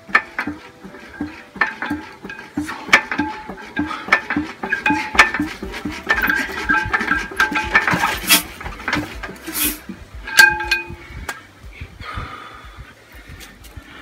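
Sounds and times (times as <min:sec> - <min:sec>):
metallic engine clanks: 0:00.0 - 0:11.8.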